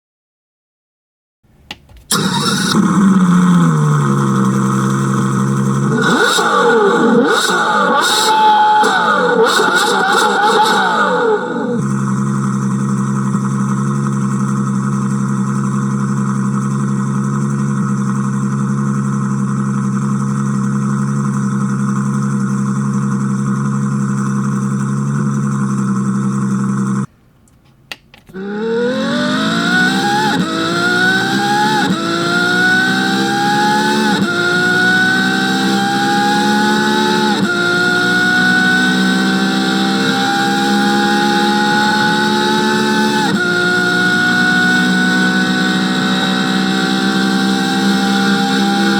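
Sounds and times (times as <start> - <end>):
car engine idling and accelerating: 2.0 - 27.1, 28.3 - 48.9.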